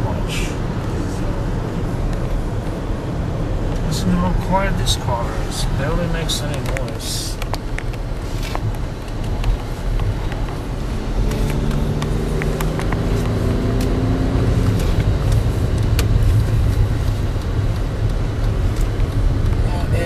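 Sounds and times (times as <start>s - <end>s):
car engine running: 0.0s - 20.0s
road and tyre rumble: 0.0s - 20.0s.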